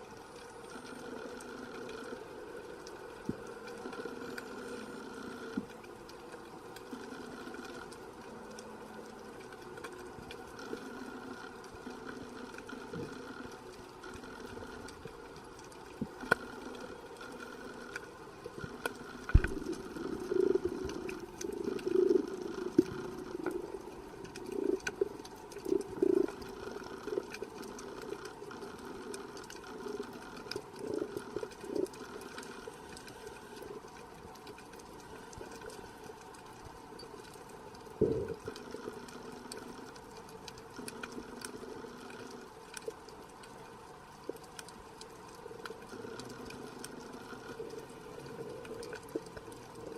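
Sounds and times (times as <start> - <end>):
faint underwater clicks: 0.0 - 49.9
underwater low hum: 0.0 - 49.9.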